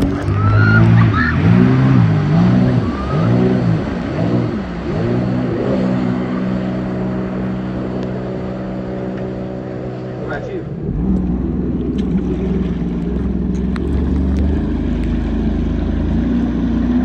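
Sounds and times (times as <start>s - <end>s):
motor engine revving: 0.0s - 17.0s.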